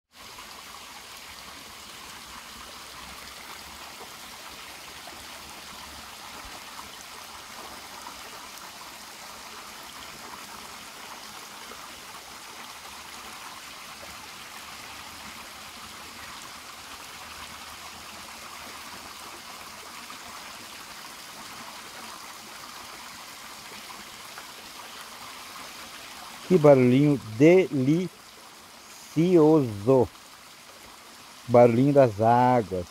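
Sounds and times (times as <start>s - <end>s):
stream of water trickling: 0.1s - 32.9s.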